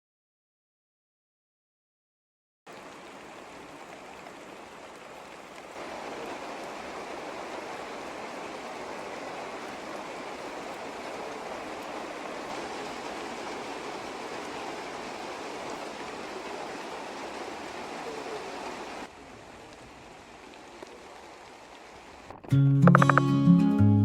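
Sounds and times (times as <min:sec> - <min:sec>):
running water rushing: 0:02.7 - 0:23.2.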